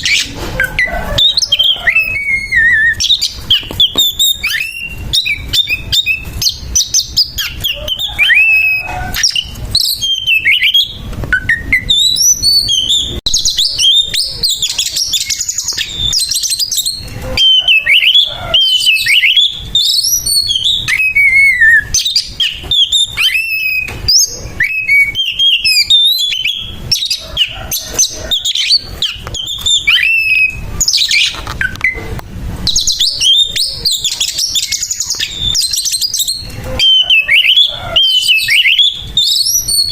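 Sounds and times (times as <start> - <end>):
bird singing whistled phrases: 0.0 - 32.0, 32.6 - 39.9.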